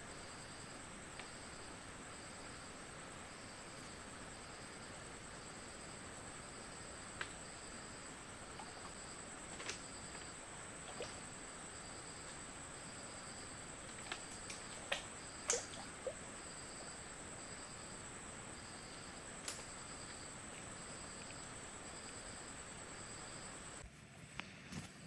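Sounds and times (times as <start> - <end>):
lower insect chirping: 0.0 - 23.8
high-pitched insect trill: 3.3 - 23.8.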